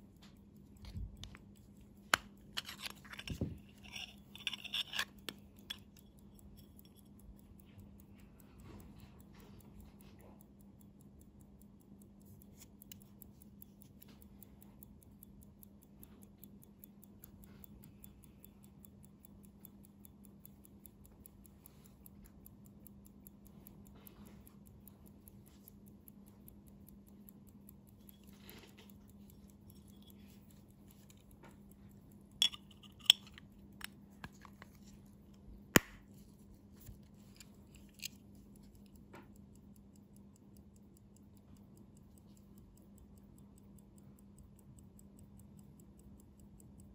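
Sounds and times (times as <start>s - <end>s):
clicks from watch being handled: 0.0s - 46.9s
pocket watch ticking: 0.0s - 46.9s.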